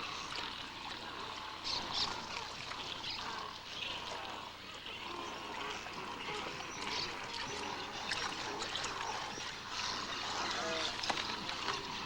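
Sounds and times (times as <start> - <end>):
shallow water trickling and splashing: 0.0 - 12.0.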